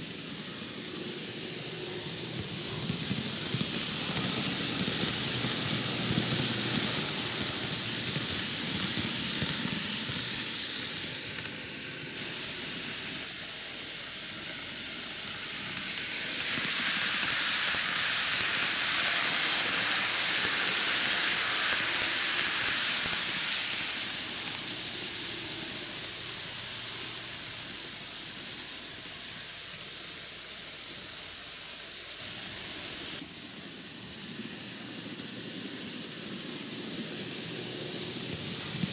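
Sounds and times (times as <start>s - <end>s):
model train wheels rattling: 0.0s - 38.9s.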